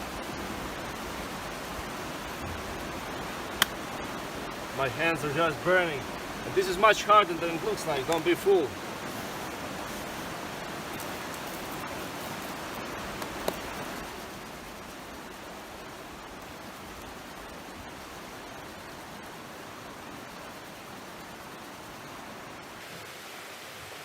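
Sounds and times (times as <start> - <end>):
creek rushing: 0.0 - 24.0.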